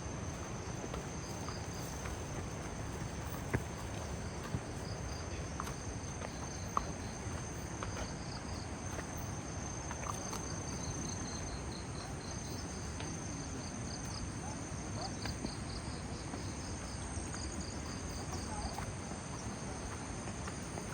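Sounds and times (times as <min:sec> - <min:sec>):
insects chirping: 0:00.0 - 0:20.9
insects droning: 0:00.0 - 0:20.9.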